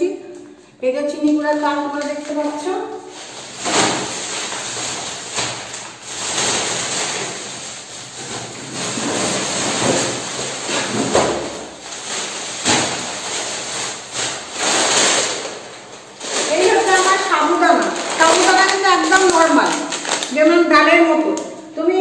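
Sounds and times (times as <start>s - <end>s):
plastic bag rustling: 1.2s - 21.6s.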